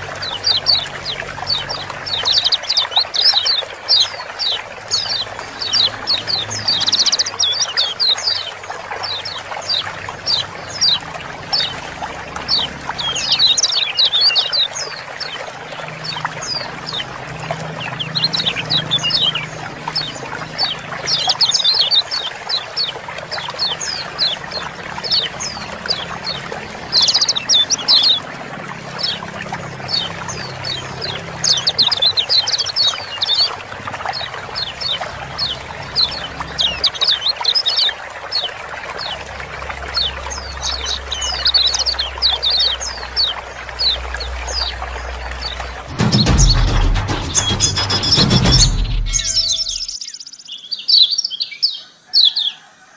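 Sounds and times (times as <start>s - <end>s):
running water hiss: 0.0s - 46.7s
birds chirping sharply: 0.0s - 52.6s.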